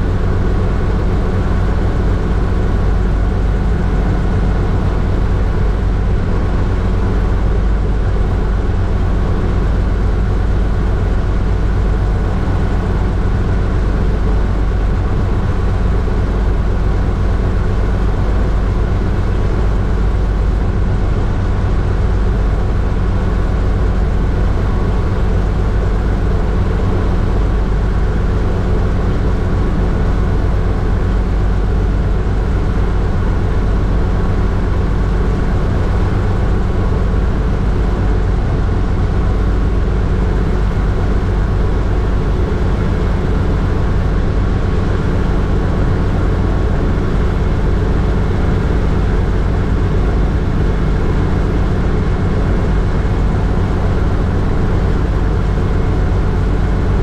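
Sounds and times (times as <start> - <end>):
helicopter engine and rotors droning: 0.0 - 57.0.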